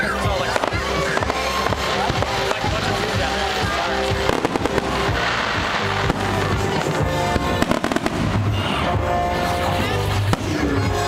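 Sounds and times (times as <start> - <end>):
fireworks bursting: 0.0 - 11.0
fireworks crackling: 0.0 - 11.0
music: 0.0 - 11.0.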